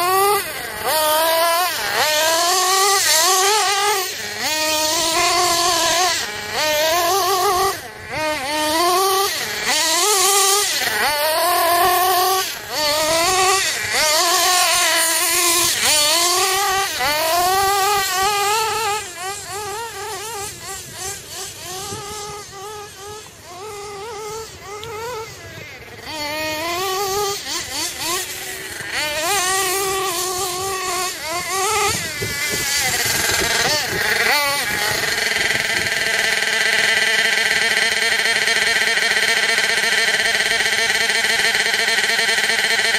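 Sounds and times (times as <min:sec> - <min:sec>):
model car engine revving: 0:00.0 - 0:42.9.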